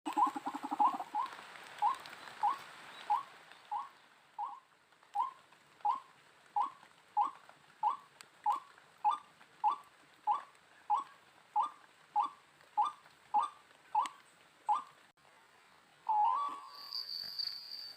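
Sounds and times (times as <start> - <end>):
waterhen calling: 0.1 - 15.0, 16.0 - 17.6.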